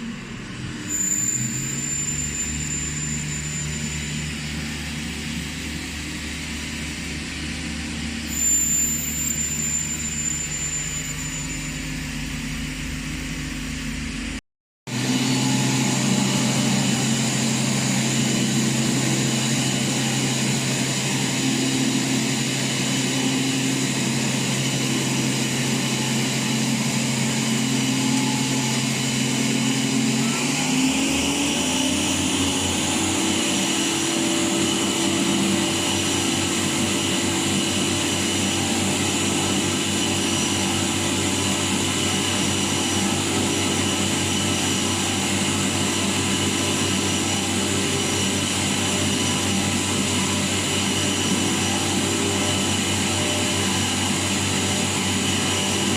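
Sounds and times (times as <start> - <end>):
lathe motor whine: 0.0 - 55.9.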